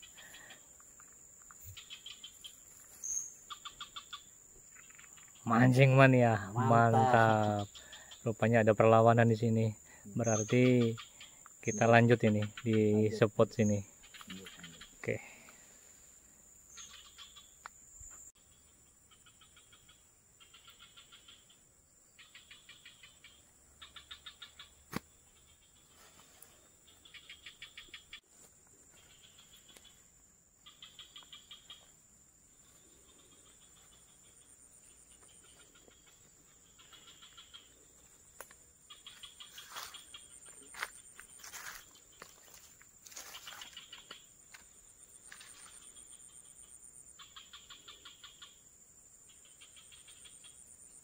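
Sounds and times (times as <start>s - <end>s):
insects pulsed trills: 0.0s - 51.0s.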